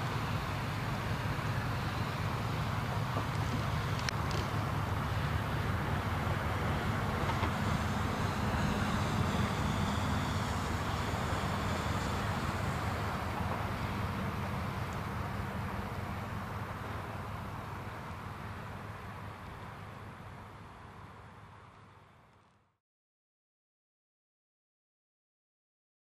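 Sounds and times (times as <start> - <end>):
passing vehicle rumble: 0.0 - 22.2
faint high whine: 0.0 - 22.8.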